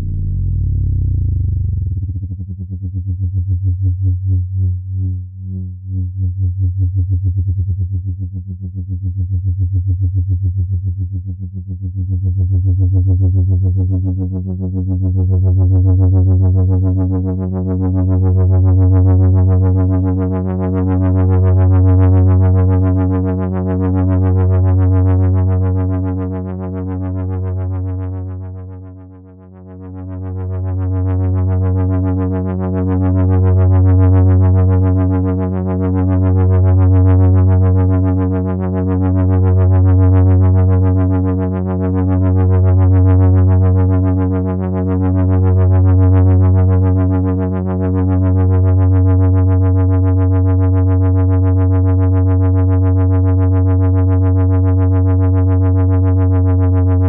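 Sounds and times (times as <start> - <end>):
bass synthesizer held note: 0.0 - 6.8, 12.2 - 57.0.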